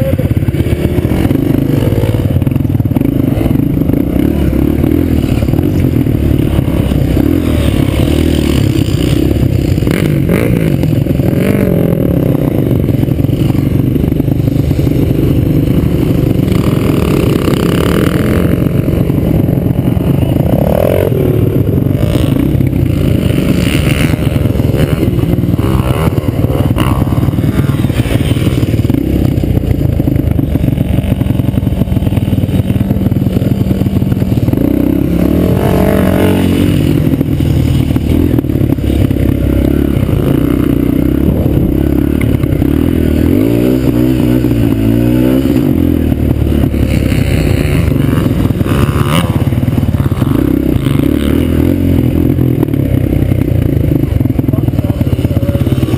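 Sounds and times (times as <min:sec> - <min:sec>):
quad bike engine revving: 0:00.0 - 0:55.9.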